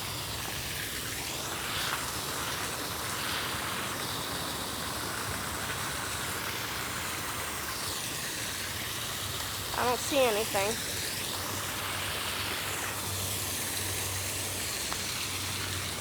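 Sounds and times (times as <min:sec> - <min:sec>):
waterfall pouring into pond: 0:00.0 - 0:16.0.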